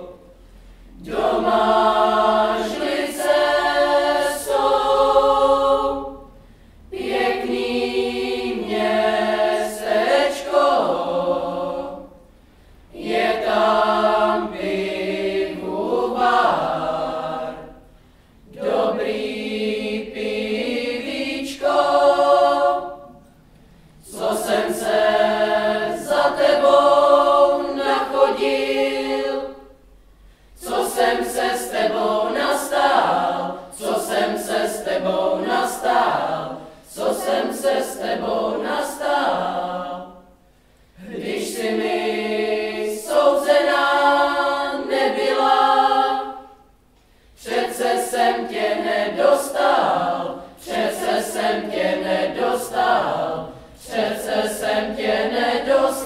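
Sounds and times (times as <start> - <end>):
boys' choir singing a cappella: 0.0 - 12.3, 12.9 - 23.3, 24.0 - 29.9, 30.6 - 46.8, 47.4 - 56.0.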